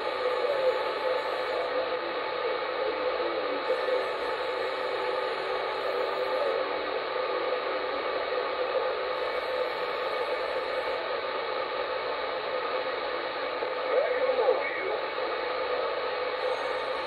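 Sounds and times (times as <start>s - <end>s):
faint steady tones: 0.0s - 17.0s
radio static and hiss: 0.0s - 17.0s.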